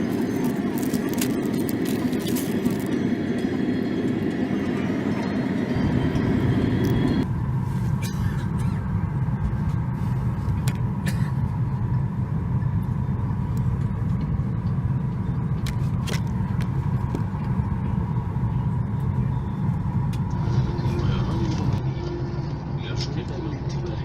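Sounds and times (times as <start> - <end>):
aircraft cabin rumble: 0.0 - 24.0.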